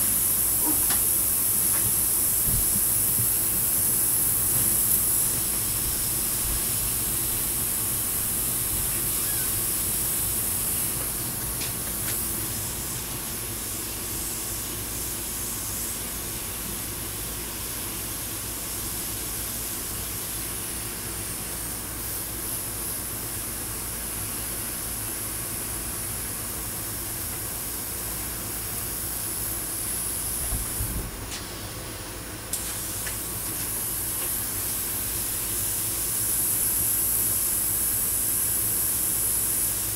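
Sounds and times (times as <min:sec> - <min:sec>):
airbrush air hissing: 0:00.0 - 0:39.9.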